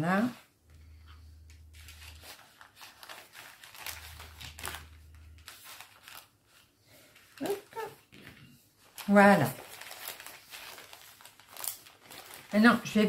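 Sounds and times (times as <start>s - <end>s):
packaging rustling and crinkling: 1.4s - 13.0s.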